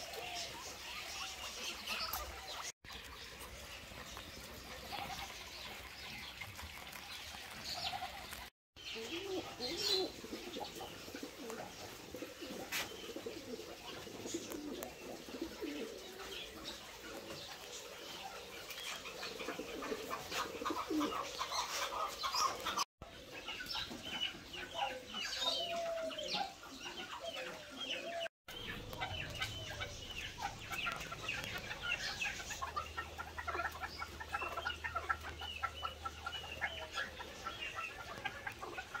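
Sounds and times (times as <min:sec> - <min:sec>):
pigeons cooing: 0:00.0 - 0:02.7, 0:07.7 - 0:39.0
birds clucking: 0:00.0 - 0:39.0.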